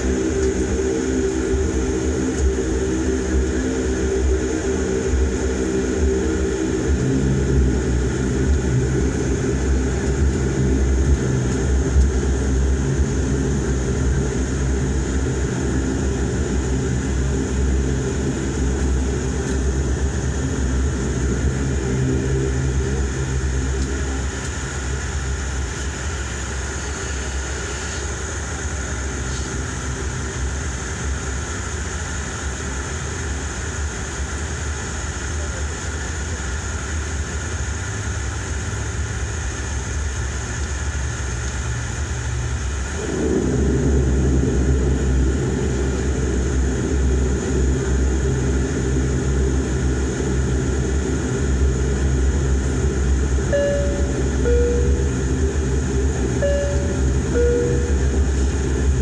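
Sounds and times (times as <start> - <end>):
turboprop droning inside cabin: 0.0 - 59.0.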